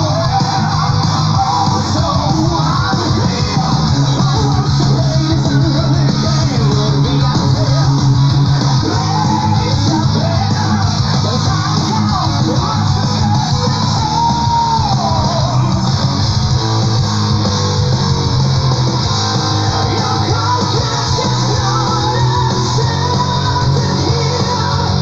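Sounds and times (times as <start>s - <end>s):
melodic lead line: 0.0s - 25.0s
metal music with distorted guitars: 0.0s - 25.0s.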